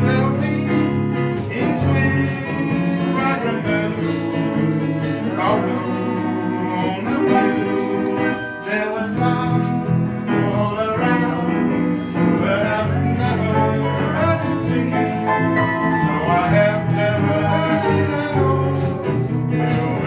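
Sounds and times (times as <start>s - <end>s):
live band playing: 0.0s - 20.0s.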